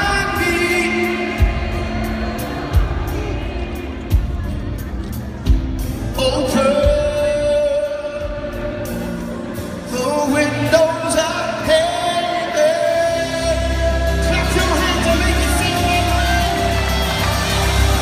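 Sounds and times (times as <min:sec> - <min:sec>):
deep bass: 0:00.0 - 0:18.0
worship band music: 0:00.0 - 0:18.0.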